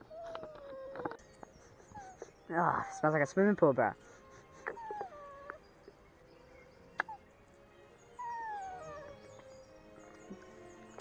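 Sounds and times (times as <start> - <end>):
dog whining: 0.0 - 7.2, 8.2 - 10.3.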